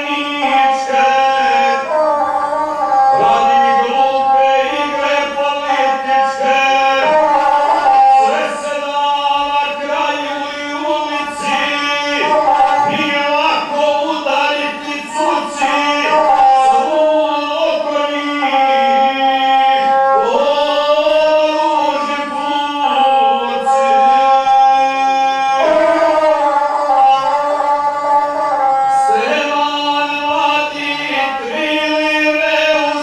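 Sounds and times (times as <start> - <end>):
bowed one-string fiddle: 0.0 - 33.0
man singing: 0.0 - 33.0.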